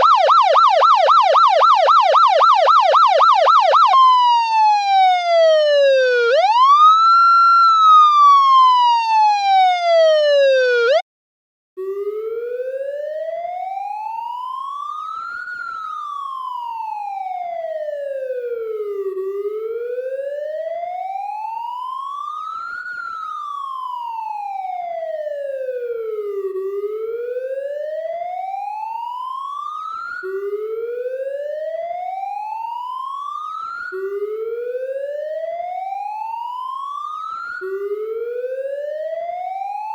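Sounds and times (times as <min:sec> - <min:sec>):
distant police siren: 0:00.0 - 0:11.0, 0:11.8 - 0:39.9
police siren wailing: 0:00.0 - 0:11.0, 0:11.8 - 0:39.9.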